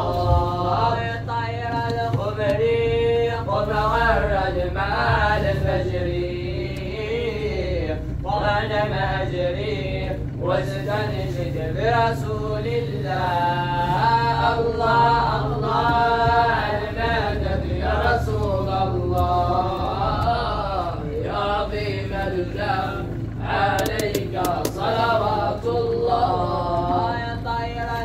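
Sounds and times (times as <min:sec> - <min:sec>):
devotional chant: 0:00.0 - 0:28.0
steady low hum: 0:00.0 - 0:28.0.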